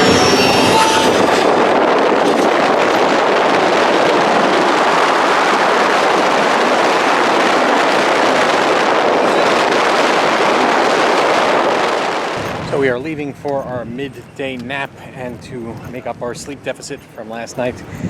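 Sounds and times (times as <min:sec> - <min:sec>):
rail vehicle running: 0:00.0 - 0:18.0.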